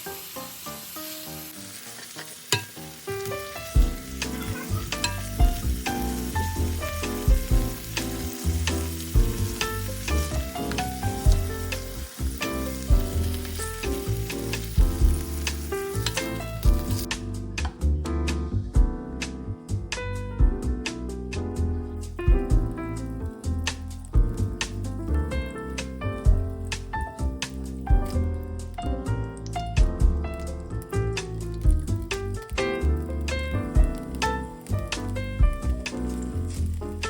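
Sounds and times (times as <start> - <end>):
food sizzling in a pan: 0.0 - 17.3, 22.6 - 37.0
background music with beat: 3.7 - 25.1, 25.7 - 36.8.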